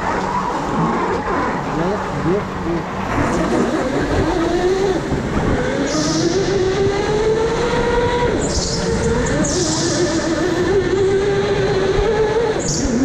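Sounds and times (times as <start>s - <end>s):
go-kart motors whining: 0.0s - 13.0s.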